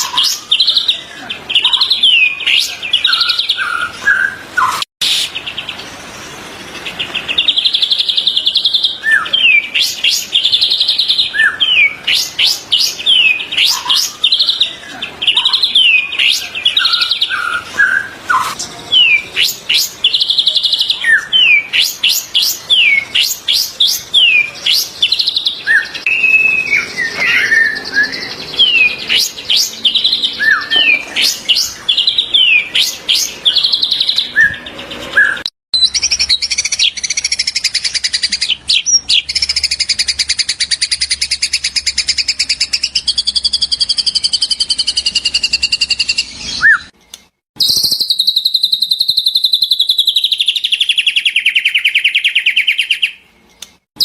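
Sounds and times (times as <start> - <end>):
songbird whistles: 1.6 - 5.4, 7.4 - 14.6, 15.3 - 47.0, 47.6 - 53.2.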